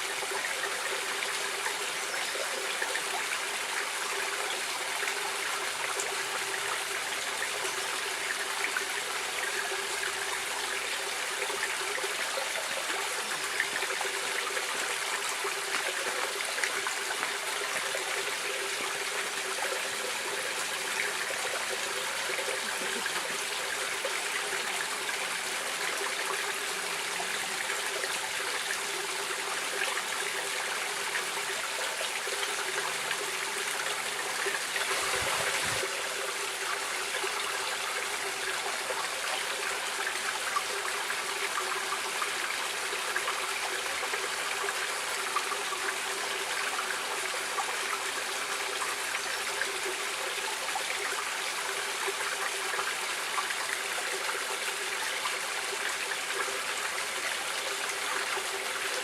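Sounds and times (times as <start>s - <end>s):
water running over rocks: 0.0s - 59.0s.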